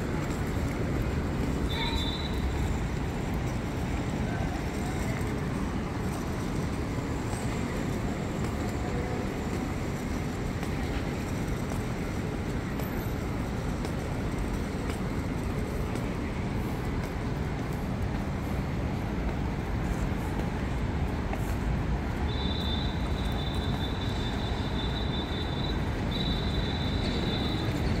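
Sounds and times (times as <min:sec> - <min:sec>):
distant traffic rumble: 0:00.0 - 0:28.0.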